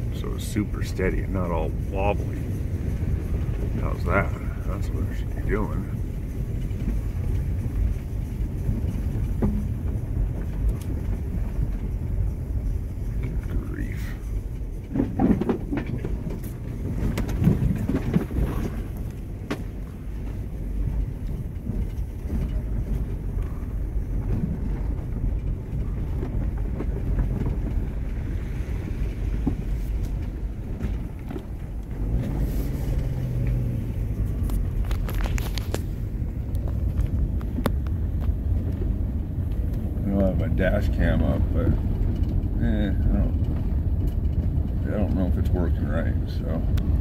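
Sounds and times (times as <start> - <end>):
vehicle engine and road noise: 0.0 - 47.0
sharp knocks and rattles: 1.6 - 13.2, 14.2 - 47.0.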